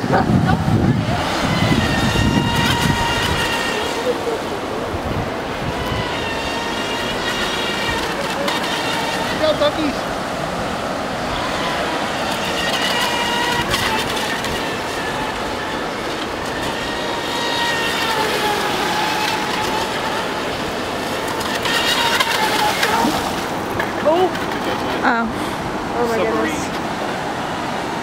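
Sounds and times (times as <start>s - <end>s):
electric motor whining: 0.0s - 24.7s
water rushing: 0.0s - 28.0s.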